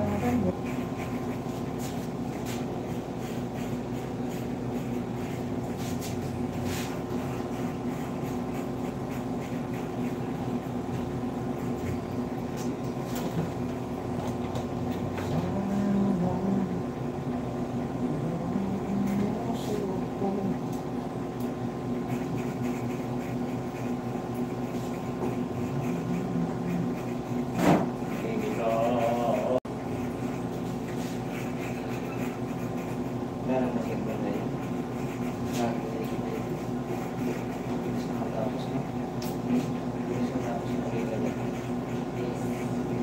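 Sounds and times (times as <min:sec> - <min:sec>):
electric motor hum: 0:00.0 - 0:38.2.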